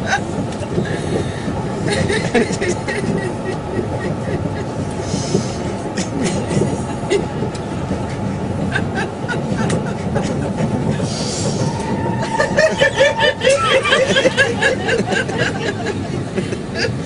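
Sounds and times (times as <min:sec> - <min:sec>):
train carriage rumble: 0:00.0 - 0:17.0
wheels clicking over rails: 0:00.0 - 0:17.0.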